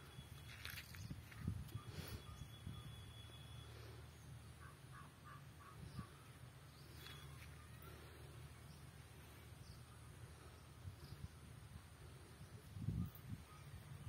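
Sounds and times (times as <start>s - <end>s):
distant bird calls: 0.0s - 14.0s.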